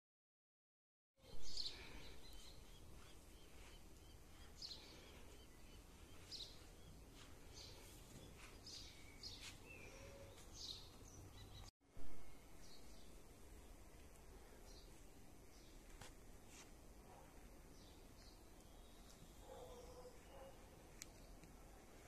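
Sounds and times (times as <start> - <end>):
birds chirping: 1.2 - 16.0, 17.0 - 22.0.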